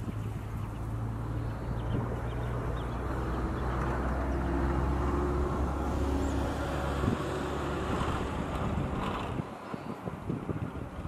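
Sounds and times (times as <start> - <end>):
low engine drone: 0.0 - 9.9.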